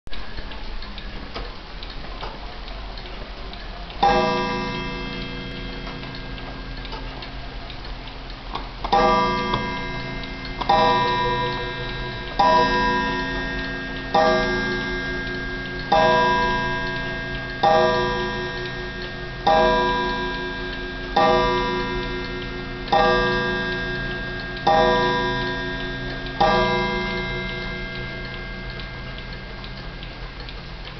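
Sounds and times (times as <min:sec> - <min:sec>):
clock ticking: 0:01.8 - 0:30.9
clock striking: 0:03.9 - 0:30.9.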